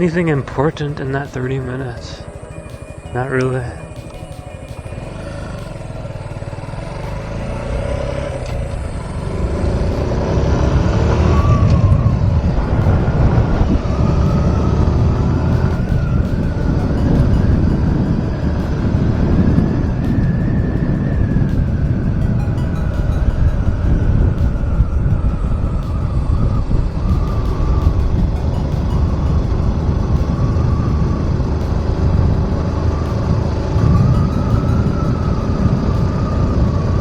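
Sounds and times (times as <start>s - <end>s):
motorcycle engine rumble: 0.0s - 37.0s
wind rush: 0.0s - 37.0s.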